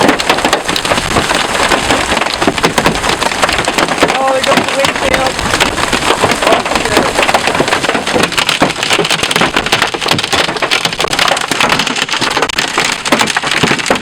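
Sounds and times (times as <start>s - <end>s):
hailstones striking a vehicle: 0.0s - 14.0s.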